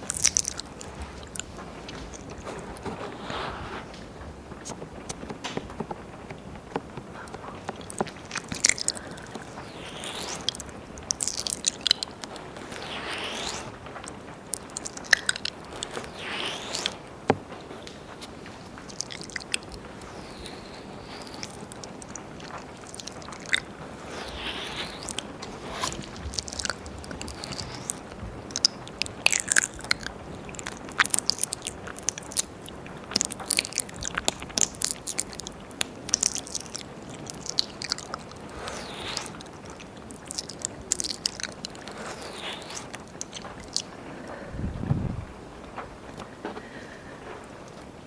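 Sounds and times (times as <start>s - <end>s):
tongue licking: 0.0s - 3.4s, 7.1s - 17.1s, 18.7s - 44.0s
lip smacking: 0.0s - 5.6s, 6.3s - 44.4s.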